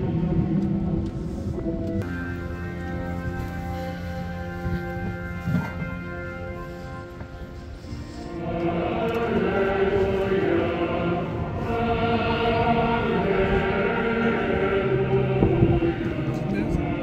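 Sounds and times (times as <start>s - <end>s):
choir chanting sustained notes: 0.0s - 17.0s.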